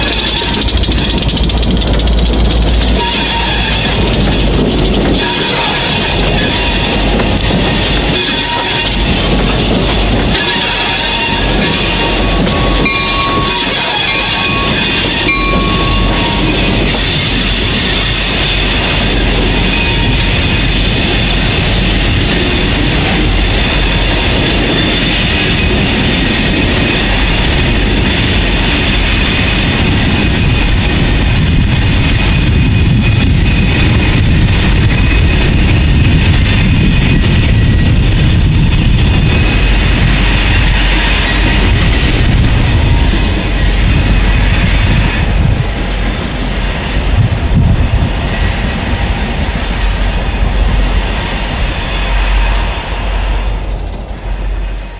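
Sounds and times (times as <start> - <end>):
train wheel squeal: 0.0 - 45.6, 48.3 - 54.9
freight train rumble: 0.0 - 54.9.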